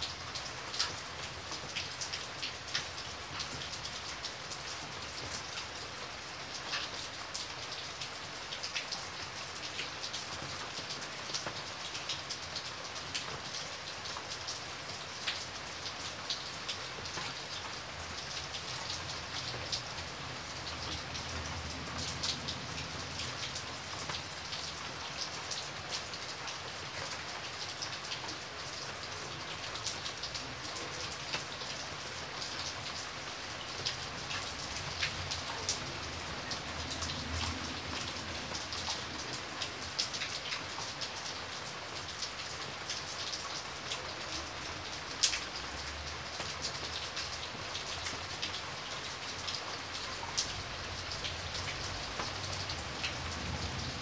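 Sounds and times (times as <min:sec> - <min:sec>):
rain drops ticking on hard surface: 0:00.0 - 0:54.0
steady rain hiss: 0:00.0 - 0:54.0.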